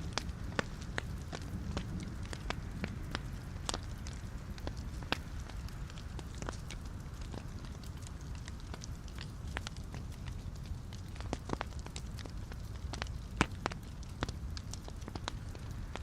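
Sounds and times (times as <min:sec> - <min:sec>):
burning wood crackling and popping: 0:00.0 - 0:16.0
fire flames rumbling: 0:00.0 - 0:16.0.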